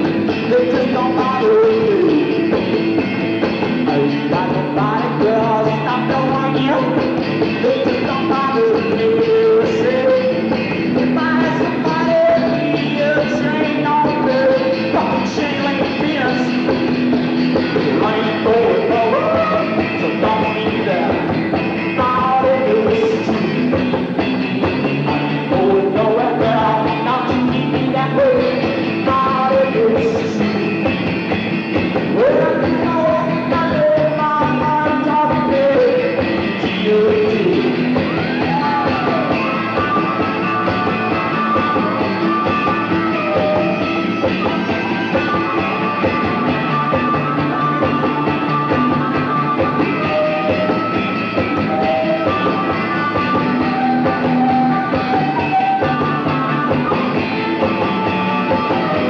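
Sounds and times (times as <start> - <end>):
electric guitar: 0.0 - 59.0
rock band playing live: 0.0 - 59.0.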